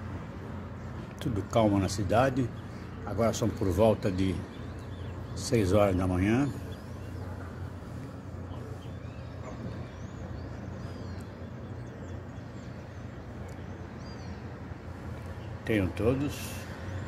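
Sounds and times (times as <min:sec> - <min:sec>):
distant traffic hum: 0:00.0 - 0:17.0
small birds chirping: 0:00.1 - 0:17.0.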